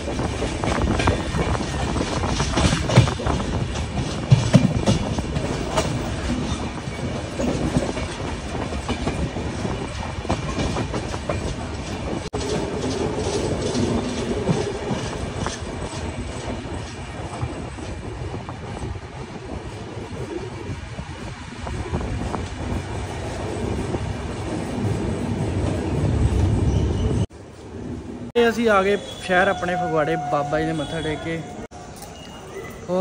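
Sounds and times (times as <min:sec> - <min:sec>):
train wheels clacking on rails: 0:00.0 - 0:27.3
train rumble: 0:00.0 - 0:32.9.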